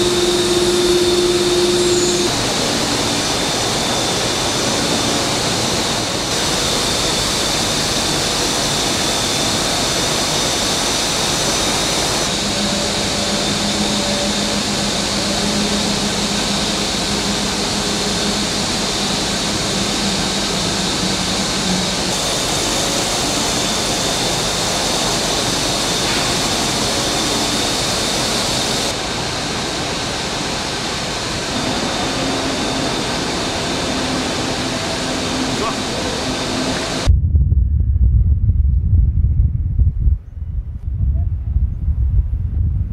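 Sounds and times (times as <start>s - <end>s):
ventilation and machinery hum: 0.0s - 42.9s.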